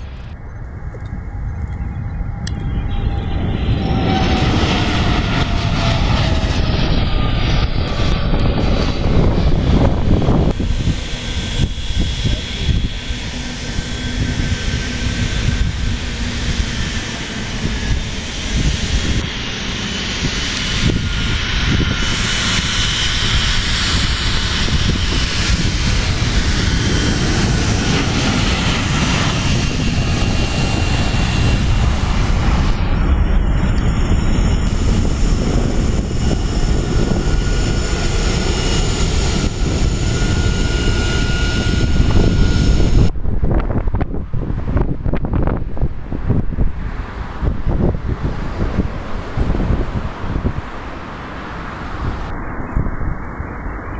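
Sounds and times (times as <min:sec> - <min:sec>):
high engine whine: 0:00.0 - 0:53.9
jet engines rumbling: 0:00.0 - 0:53.9.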